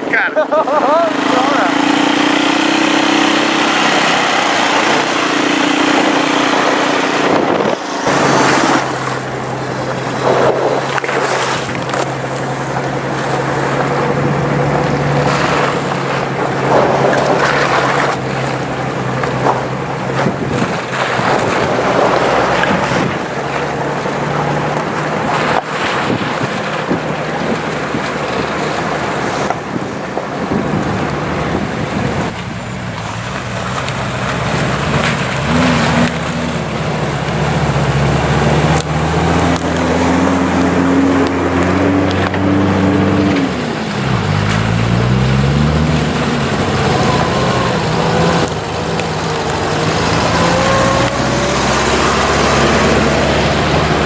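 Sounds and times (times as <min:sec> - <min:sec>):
car engine driving off-road: 0:00.0 - 0:54.0.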